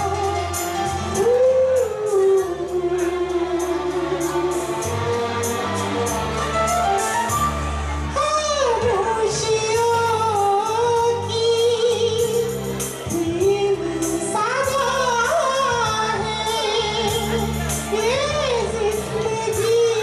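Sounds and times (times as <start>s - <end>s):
backing track: 0.0s - 20.0s.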